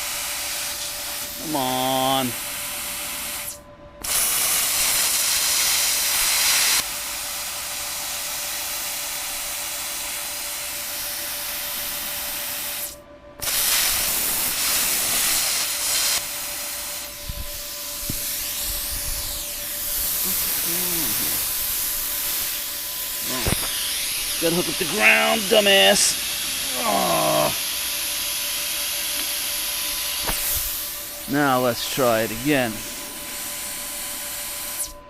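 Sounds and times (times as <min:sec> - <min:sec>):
plasma torch air hiss: 0:00.0 - 0:35.0.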